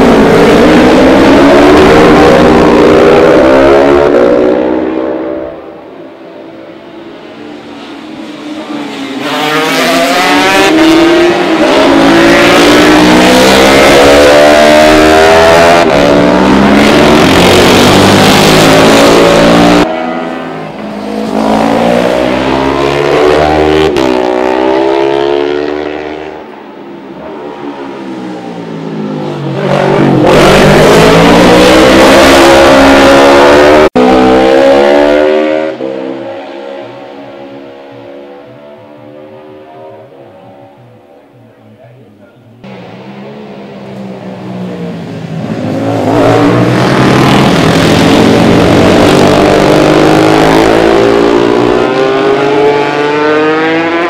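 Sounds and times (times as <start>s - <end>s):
racing motorcycles passing: 0.0s - 41.7s, 42.6s - 54.0s.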